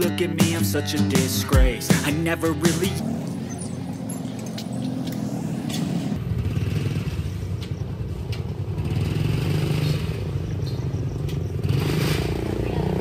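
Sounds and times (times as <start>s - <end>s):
small motorbike engine rumbling: 1.7s - 13.0s.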